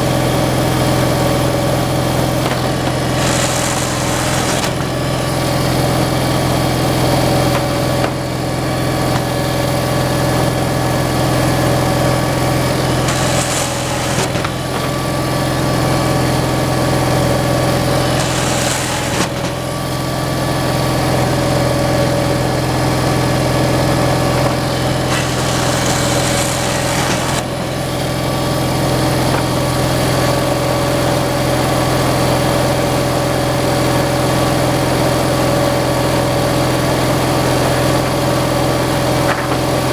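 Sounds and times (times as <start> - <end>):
machine engine running: 0.0 - 32.6.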